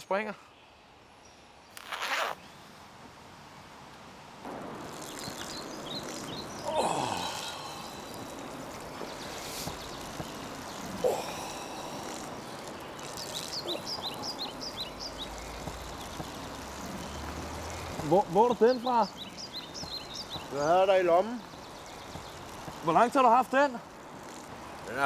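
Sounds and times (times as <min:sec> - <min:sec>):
steady background hiss: 0:00.0 - 0:25.0
small birds chirping: 0:04.5 - 0:25.0.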